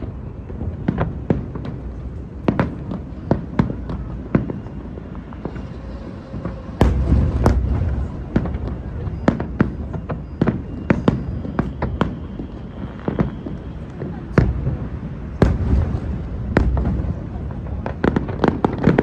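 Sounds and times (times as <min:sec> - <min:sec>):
deep fireworks booms: 0:00.0 - 0:19.0
fireworks bangs: 0:00.0 - 0:19.0.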